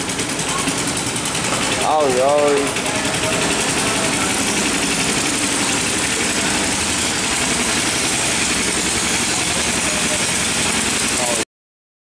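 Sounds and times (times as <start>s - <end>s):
boat engine running steadily: 0.0s - 11.4s.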